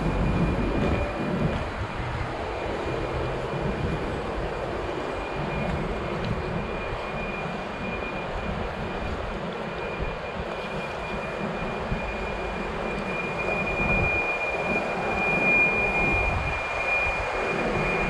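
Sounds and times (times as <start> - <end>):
thin high whine: 0.0 - 18.0
traffic rumble: 0.0 - 18.0.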